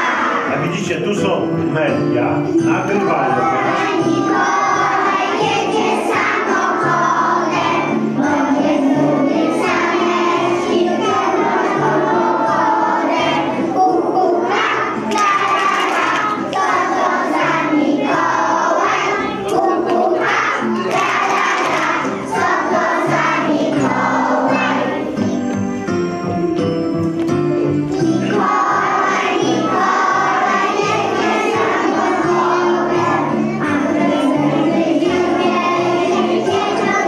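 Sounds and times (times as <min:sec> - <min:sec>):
children singing together: 0:00.0 - 0:00.6, 0:02.9 - 0:26.8, 0:27.8 - 0:37.0.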